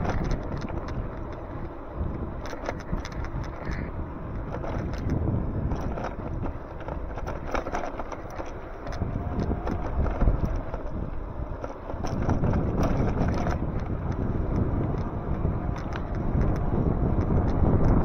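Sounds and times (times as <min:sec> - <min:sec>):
clicks and rattles: 0:00.0 - 0:18.0
wind buffeting microphone: 0:00.0 - 0:18.0.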